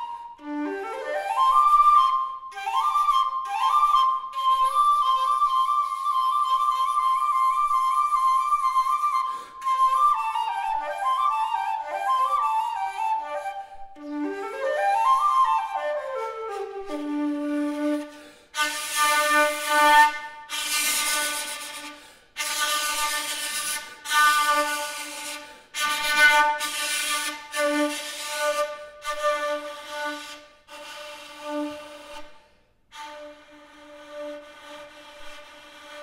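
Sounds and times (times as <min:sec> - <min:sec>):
bamboo flute notes: 0:00.0 - 0:36.0.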